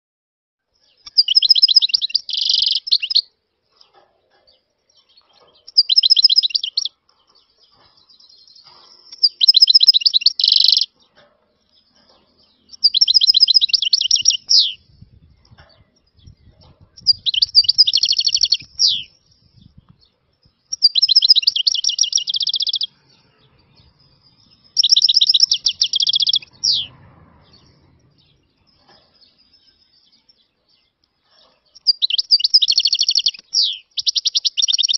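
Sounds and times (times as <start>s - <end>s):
goldfinch singing trilled notes: 0.9s - 3.3s, 4.9s - 11.0s, 11.7s - 15.0s, 16.0s - 30.9s, 31.8s - 34.9s.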